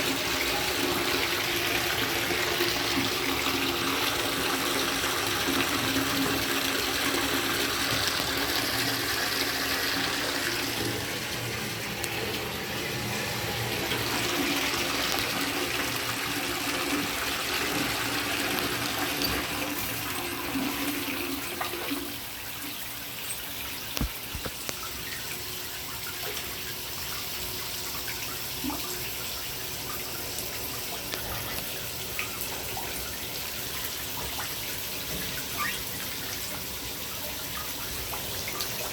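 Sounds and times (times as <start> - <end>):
shower water splashing: 0.0 - 38.9.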